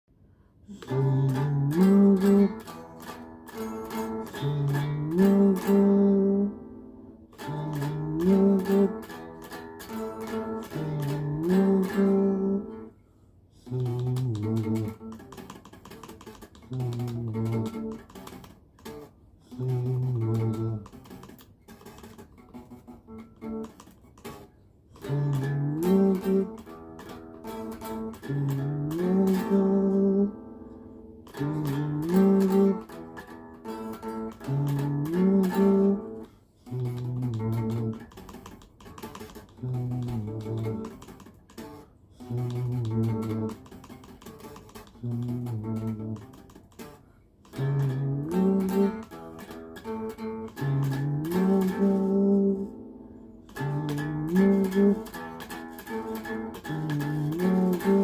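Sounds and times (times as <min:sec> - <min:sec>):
plucked guitar melody: 0:00.6 - 0:13.0, 0:13.6 - 0:58.0.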